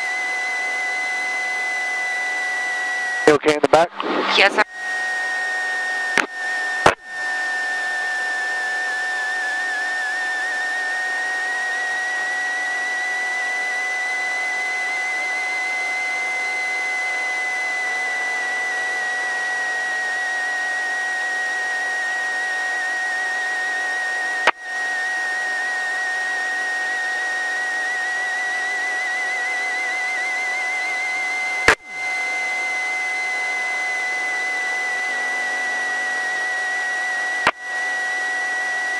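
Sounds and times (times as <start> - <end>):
high whine in headset intercom: 0.0 - 38.9.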